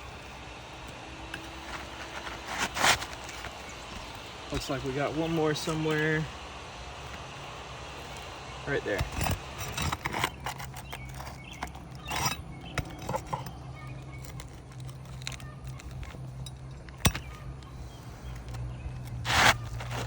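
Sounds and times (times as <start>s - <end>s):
low steady hum: 0.0s - 20.0s
hand tool scraping and tapping: 0.8s - 5.9s, 8.9s - 20.0s.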